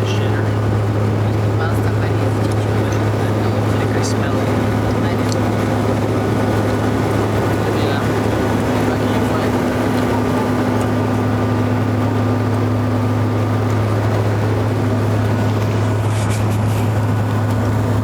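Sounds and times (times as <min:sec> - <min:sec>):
airliner cabin drone: 0:00.0 - 0:18.0
constant low hum: 0:00.0 - 0:18.0.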